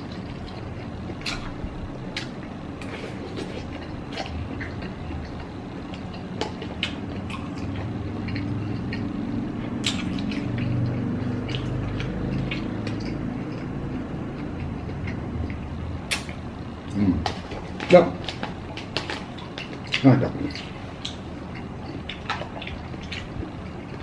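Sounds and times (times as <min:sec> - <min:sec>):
low hum: 0:00.0 - 0:24.0
wet chewing mouth clicks: 0:00.2 - 0:24.0.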